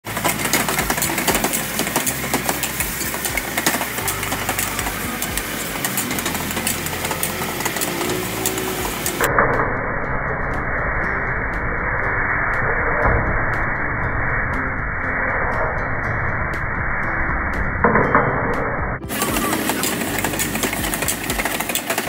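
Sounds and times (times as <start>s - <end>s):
gas wok burner roaring: 0.0s - 17.7s, 19.0s - 22.0s
muffled radio music: 0.0s - 22.0s.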